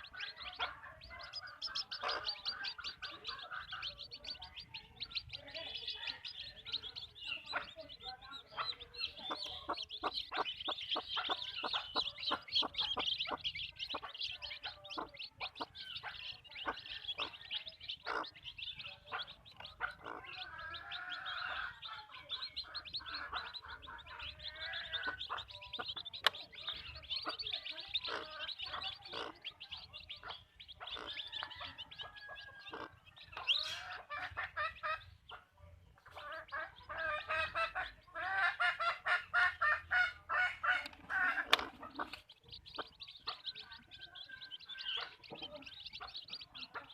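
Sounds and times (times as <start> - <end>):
hens clucking: 0.0 - 46.9.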